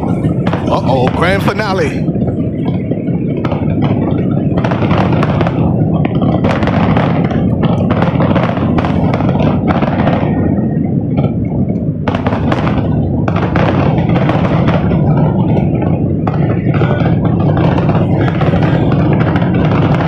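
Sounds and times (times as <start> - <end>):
firework explosions: 0.0 - 20.0
low rumble: 0.0 - 20.0.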